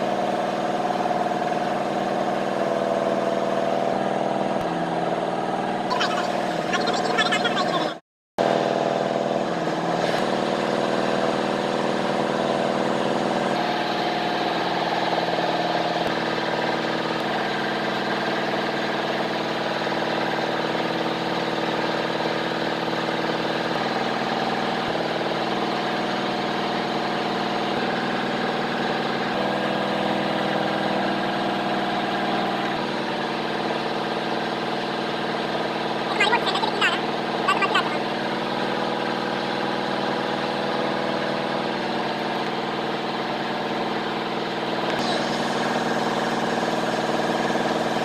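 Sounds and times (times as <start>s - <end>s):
workshop machinery humming: 3.4s - 17.9s, 19.9s - 48.0s.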